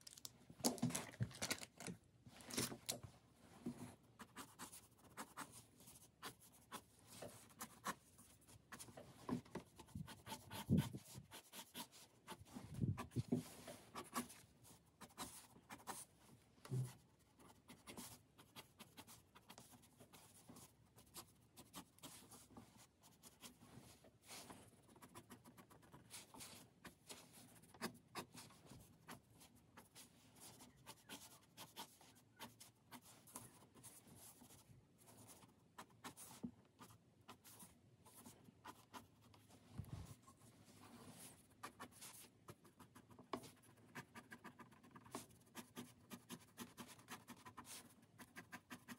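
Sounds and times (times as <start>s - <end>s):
pen scratching on paper: 4.2s - 8.9s, 9.6s - 16.1s, 16.9s - 23.6s, 24.9s - 39.3s, 41.2s - 48.9s.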